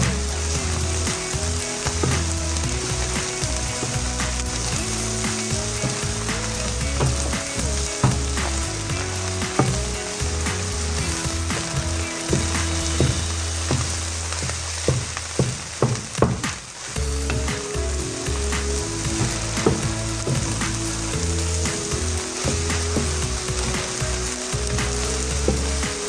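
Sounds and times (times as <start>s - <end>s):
rice sizzling in a hot pan: 0.0s - 26.0s.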